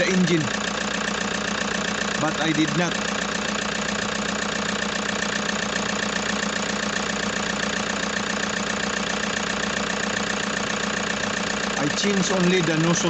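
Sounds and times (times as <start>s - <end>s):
diesel engine idling with knock: 0.0s - 13.0s.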